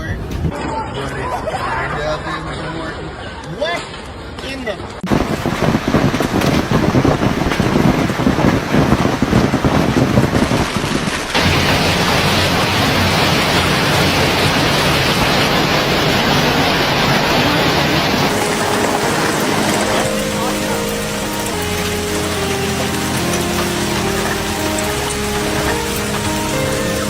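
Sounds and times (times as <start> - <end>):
heavy hail clattering: 5.1 - 27.0.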